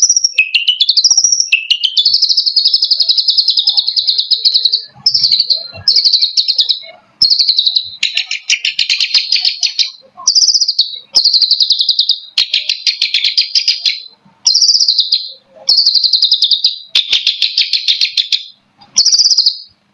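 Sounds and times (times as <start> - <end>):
bird singing chattering notes: 0.0 - 19.8.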